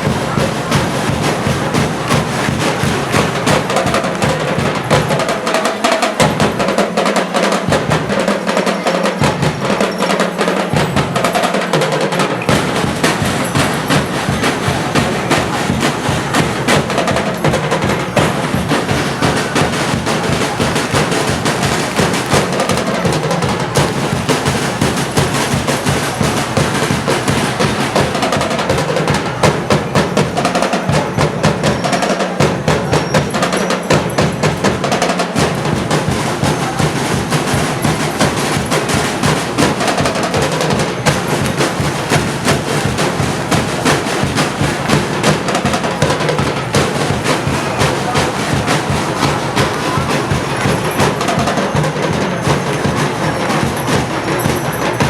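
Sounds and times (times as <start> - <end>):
fast percussion music drumming: 0.0 - 55.0.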